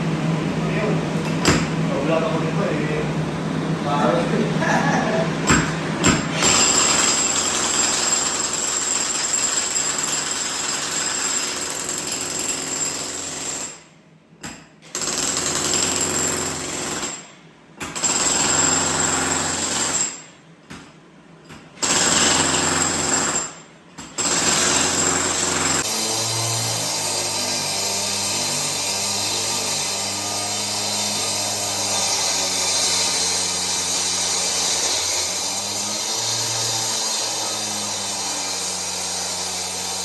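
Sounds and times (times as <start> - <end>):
jackhammer breaking concrete: 5.5 - 13.9, 14.8 - 20.3, 21.8 - 40.0.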